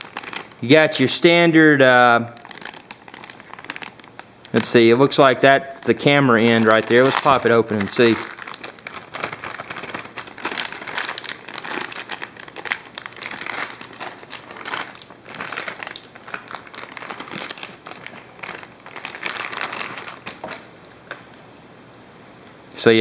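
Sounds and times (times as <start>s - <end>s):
plastic bag crinkling: 0.0s - 21.2s.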